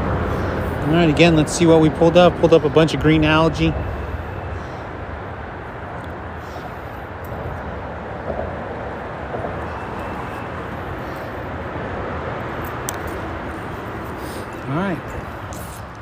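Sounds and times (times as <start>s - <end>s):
freeway traffic rumble: 0.0s - 16.0s.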